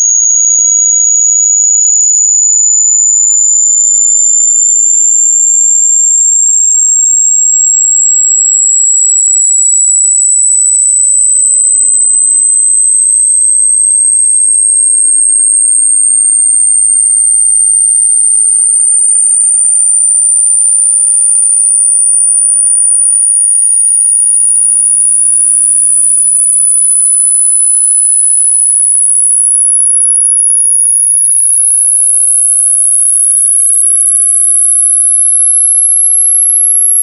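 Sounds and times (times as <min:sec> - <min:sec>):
high-pitched rising sine tone: 0:00.0 - 0:37.0.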